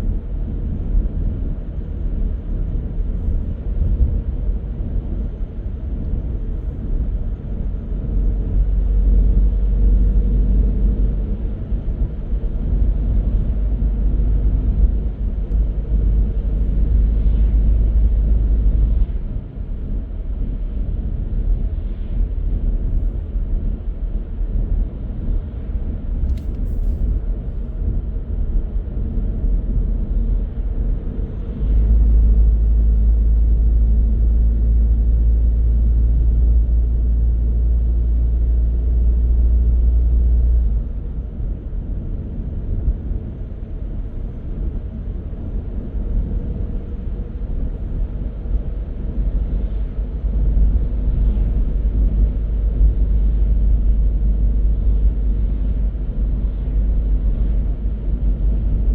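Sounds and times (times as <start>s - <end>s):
car tyres and engine rumble: 0.0s - 58.9s.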